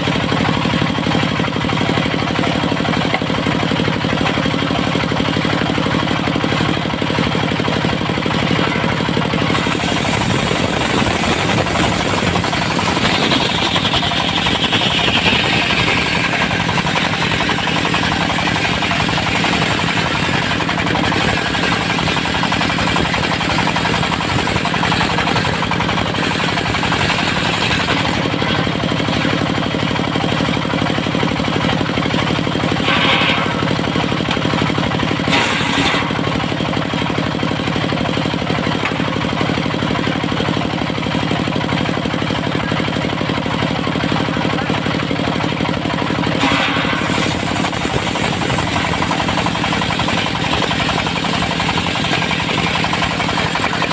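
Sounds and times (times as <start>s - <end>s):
saw blade whine: 0.0s - 41.5s, 42.2s - 53.9s
sawmill engine clattering: 0.0s - 53.9s.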